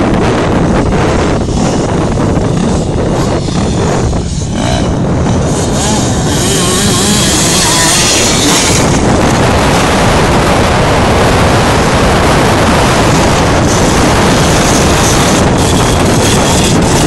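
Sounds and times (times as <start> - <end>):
motorbike engine: 0.0 - 17.0
wind buffeting microphone: 0.0 - 17.0.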